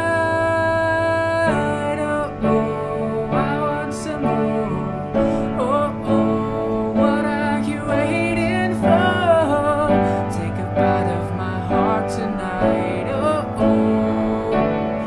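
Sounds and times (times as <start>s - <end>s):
slow gentle music: 0.0s - 15.0s.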